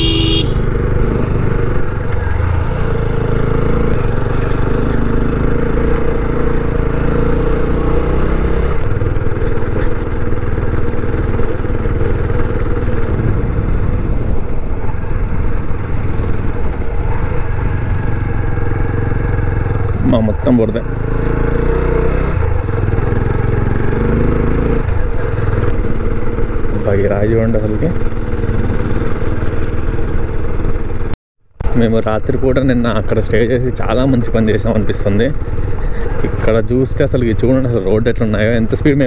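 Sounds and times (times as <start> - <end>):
motorcycle engine running: 0.0 - 39.0
tyre and road noise: 0.0 - 39.0.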